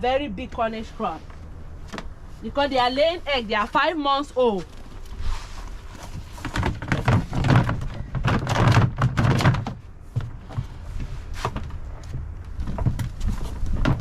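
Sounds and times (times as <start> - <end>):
dull thumps and scuffling: 1.0 - 14.0.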